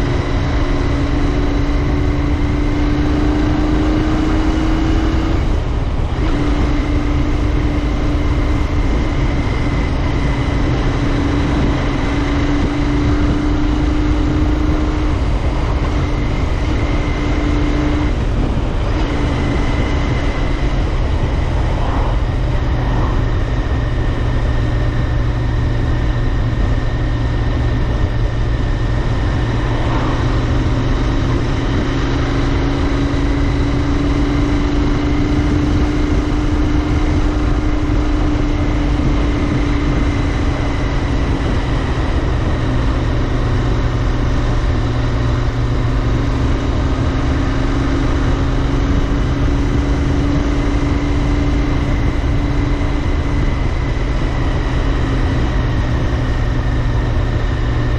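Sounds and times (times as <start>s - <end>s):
motorcycle engine cruising: 0.0s - 57.9s
wind rumble on microphone: 0.0s - 57.9s.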